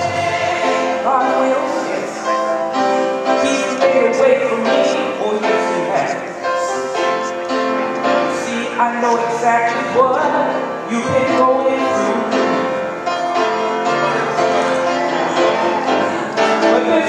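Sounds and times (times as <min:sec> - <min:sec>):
melody of long held notes: 0:00.0 - 0:17.0.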